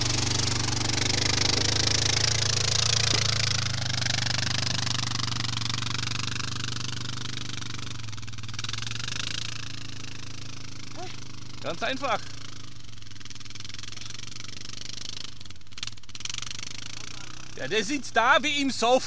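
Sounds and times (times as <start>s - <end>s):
quad bike engine climbing: 0.0s - 19.0s
quad bike engine idling: 0.0s - 19.0s.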